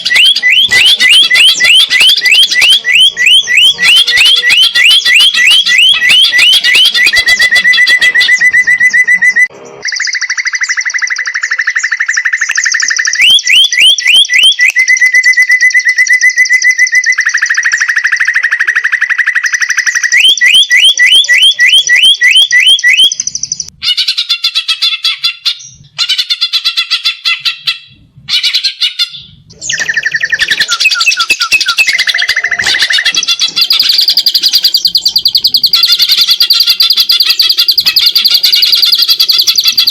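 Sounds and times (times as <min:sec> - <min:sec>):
bird singing rapid trills: 0:00.0 - 0:23.7, 0:29.5 - 0:39.9.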